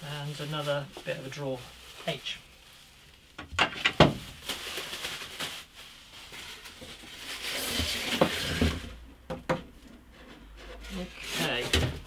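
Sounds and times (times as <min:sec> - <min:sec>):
plastic wrapping rustling: 0:00.0 - 0:09.0, 0:10.9 - 0:12.0.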